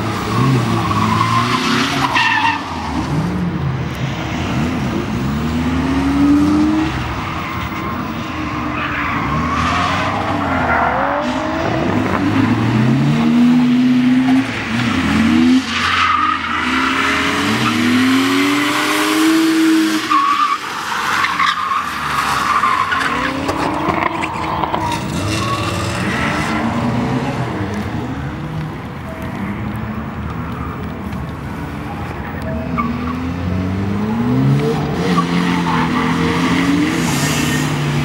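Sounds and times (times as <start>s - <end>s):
tyres skidding on damp tarmac: 0.0s - 38.0s.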